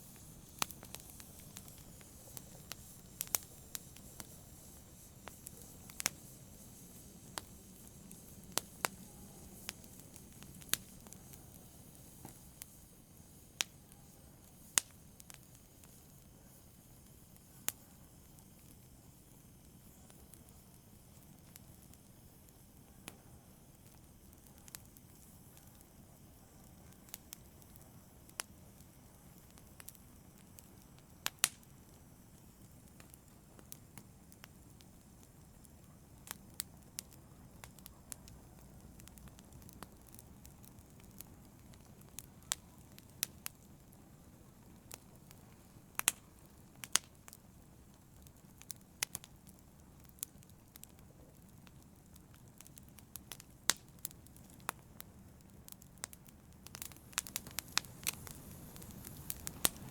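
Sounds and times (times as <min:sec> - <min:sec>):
faint low hiss: 0:00.0 - 0:59.9
fire crackling: 0:00.0 - 0:59.9.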